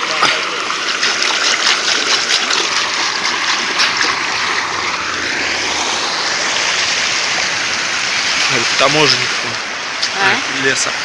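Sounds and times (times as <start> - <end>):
running water splashing: 0.0 - 11.0.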